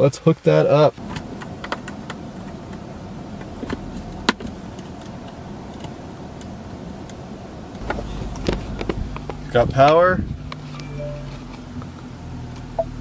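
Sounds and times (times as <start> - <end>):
car cabin hum: 1.0 - 13.0.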